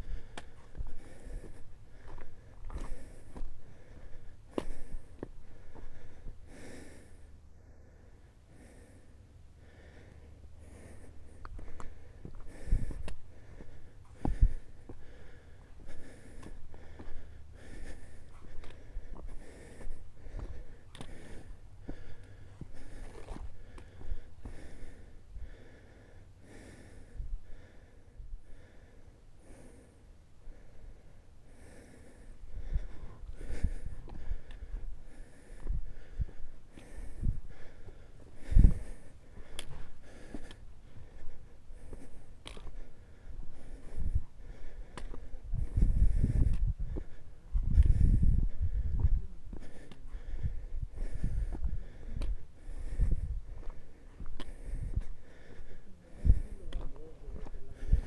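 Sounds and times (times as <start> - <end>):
person breathing hard: 0.0 - 58.0.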